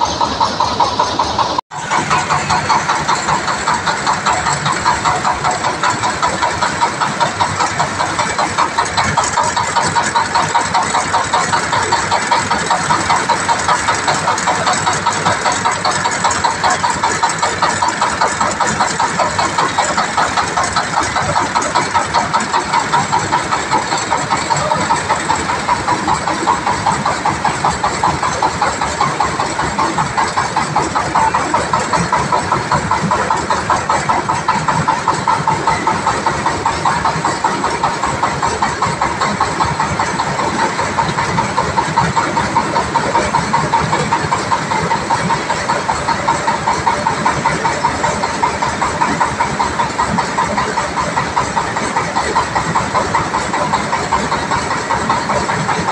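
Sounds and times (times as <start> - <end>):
pulsing engine running: 0.0 - 55.9.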